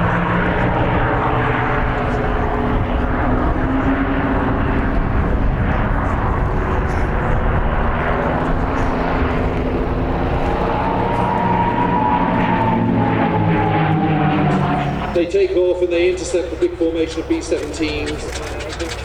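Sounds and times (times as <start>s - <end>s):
propeller aircraft engine droning: 0.0s - 19.0s.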